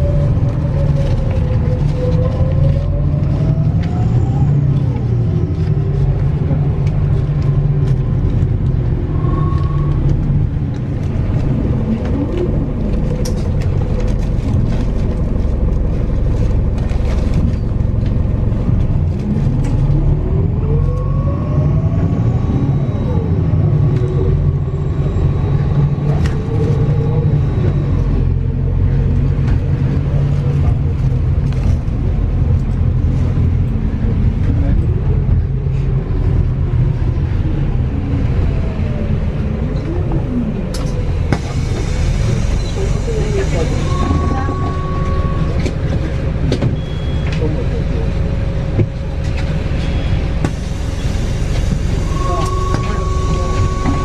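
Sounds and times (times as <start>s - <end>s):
bus engine and road rumble: 0.0s - 54.0s
rising engine whine: 0.0s - 54.0s.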